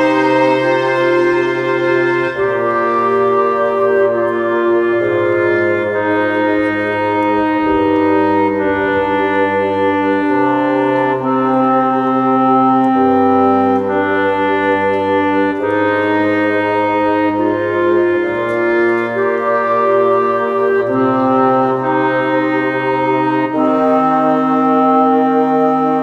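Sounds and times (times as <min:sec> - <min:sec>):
slow held chords: 0:00.0 - 0:26.0.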